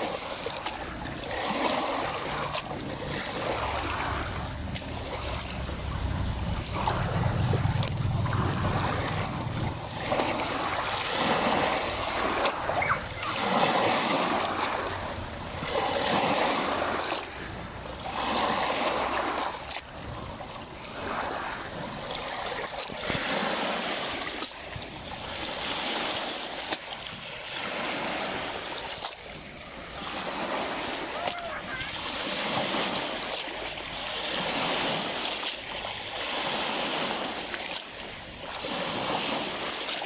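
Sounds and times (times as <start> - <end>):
waves lapping at shore: 0.0 - 40.0.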